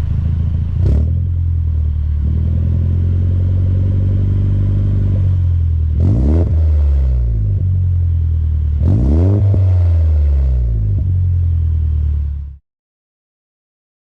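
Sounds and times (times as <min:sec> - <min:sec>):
vehicle engine idling and revving: 0:00.0 - 0:12.6.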